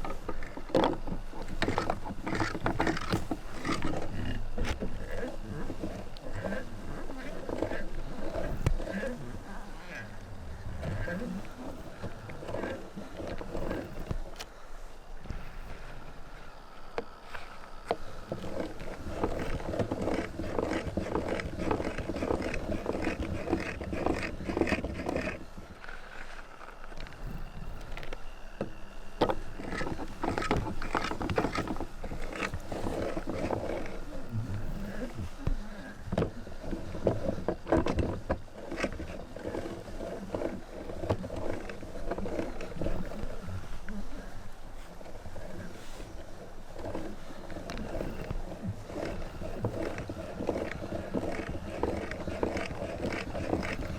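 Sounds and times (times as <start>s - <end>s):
soap crackling in grinder: 0.0s - 53.9s.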